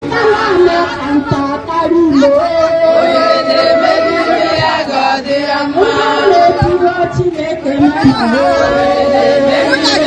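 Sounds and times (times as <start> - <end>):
women chanting and singing: 0.0 - 10.0.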